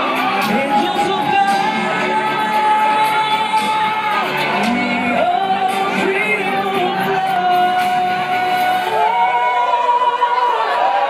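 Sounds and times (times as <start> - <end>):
man singing into a microphone: 0.0 - 9.3
backing music: 0.0 - 10.9.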